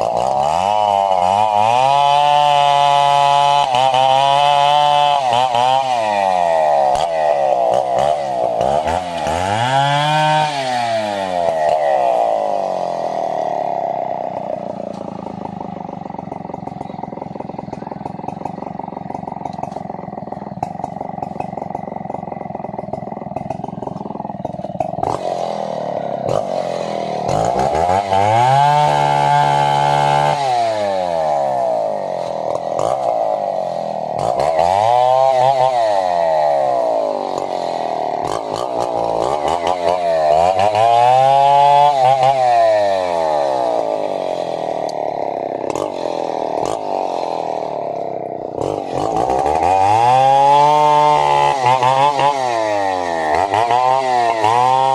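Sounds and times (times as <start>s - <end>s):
chainsaw engine idling and revving: 0.0s - 54.9s.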